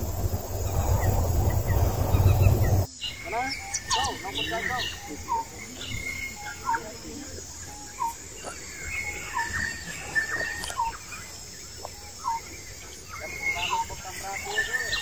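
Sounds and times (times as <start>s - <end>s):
faint bird chirps: 0.6s - 15.0s.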